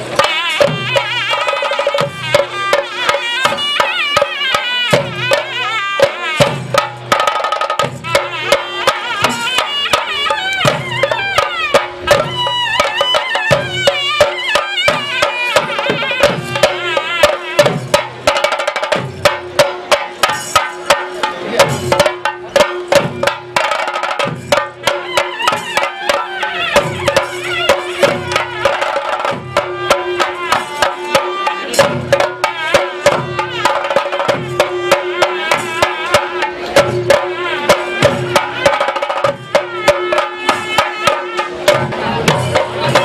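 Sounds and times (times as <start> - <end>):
drums beaten with sticks: 0.0 - 43.0.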